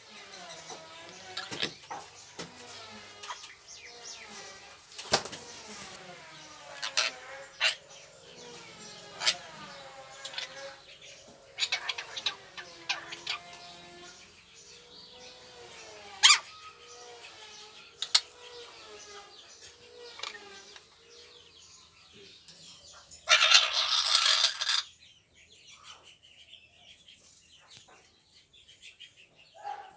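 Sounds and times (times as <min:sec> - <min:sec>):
faint chatter: 0:00.0 - 0:24.4
bird chirping and warbling: 0:00.0 - 0:29.9.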